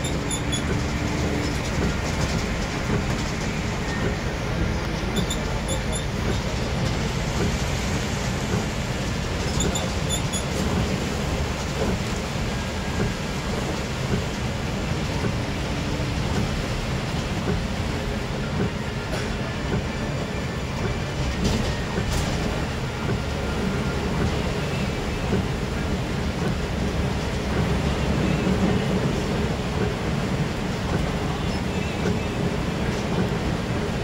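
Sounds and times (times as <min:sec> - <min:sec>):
low rumble of moving vehicle: 0:00.0 - 0:34.0.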